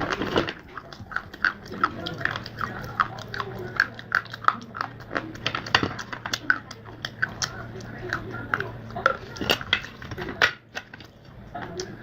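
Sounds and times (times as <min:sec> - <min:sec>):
chewing crunchy clay: 0:00.0 - 0:12.0.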